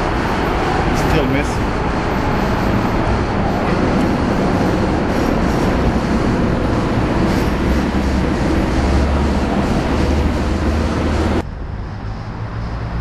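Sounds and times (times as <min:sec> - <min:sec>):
loud steady rumbling: 0:00.0 - 0:13.0.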